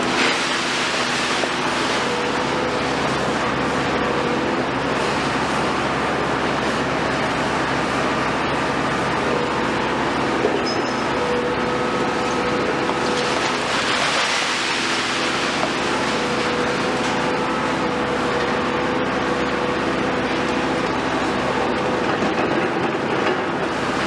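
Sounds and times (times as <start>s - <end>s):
excavator engine and hydraulic drone: 0.0s - 24.0s.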